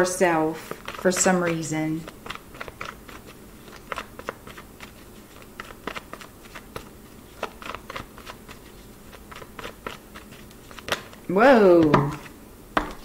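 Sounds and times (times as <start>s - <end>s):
cards being shuffled: 0.6s - 13.0s.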